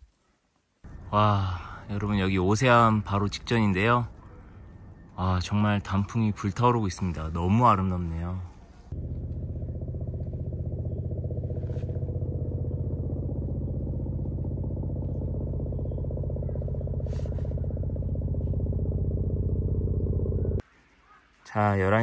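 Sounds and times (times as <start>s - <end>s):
low pulsing engine-like drone: 0.8s - 20.6s.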